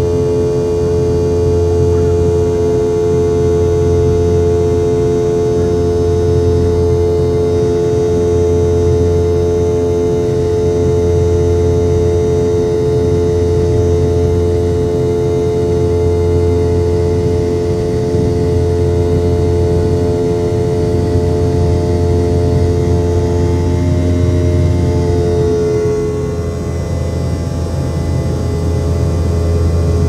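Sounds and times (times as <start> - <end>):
airplane cabin drone with whine: 0.0 - 30.0.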